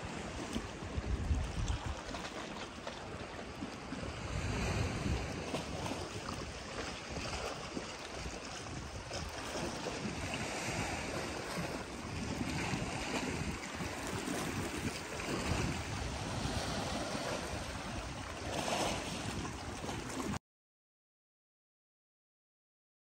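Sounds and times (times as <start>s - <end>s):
waves washing against rocks: 0.0s - 20.4s
wind buffeting microphone: 0.0s - 20.4s.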